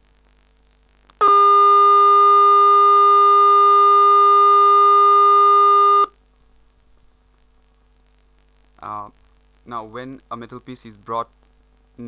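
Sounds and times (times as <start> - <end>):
buzzy square-wave tone: 0.0 - 12.0.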